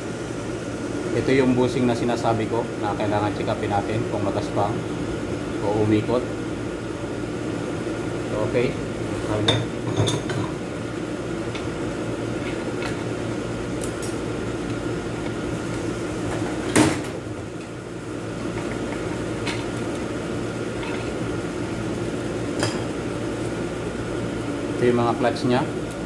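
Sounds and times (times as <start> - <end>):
steady workshop hum: 0.0 - 26.0.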